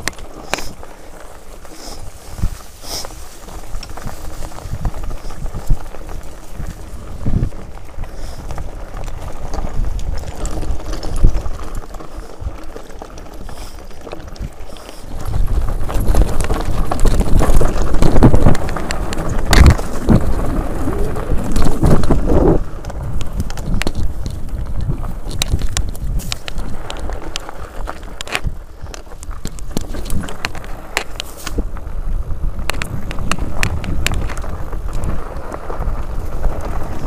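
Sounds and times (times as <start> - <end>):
bike knocking and clattering: 0.0 - 37.0
tyres rolling over stones: 0.0 - 37.0.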